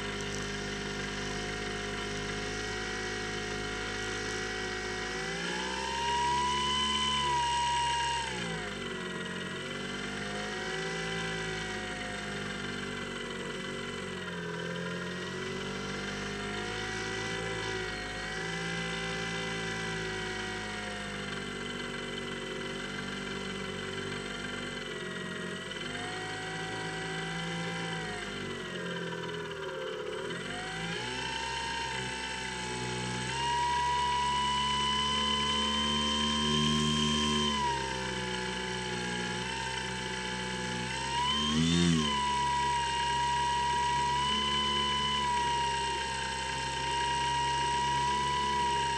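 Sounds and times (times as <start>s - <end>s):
model aircraft propeller whine: 0.0s - 48.9s.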